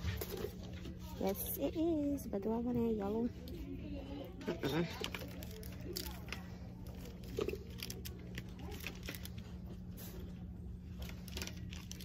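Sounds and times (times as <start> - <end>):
merchandise rustling and clicking: 0.0 - 12.0
steady low hum: 0.0 - 12.0.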